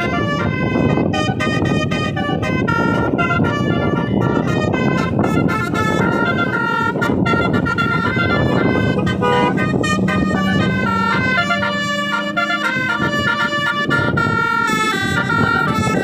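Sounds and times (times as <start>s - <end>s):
multi-tone bus horn tune: 0.0s - 16.0s.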